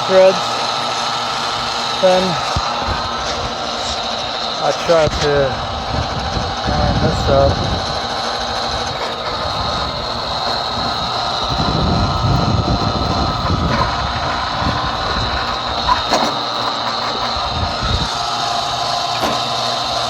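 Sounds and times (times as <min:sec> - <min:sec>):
drilling rig engine drone: 0:00.0 - 0:20.0.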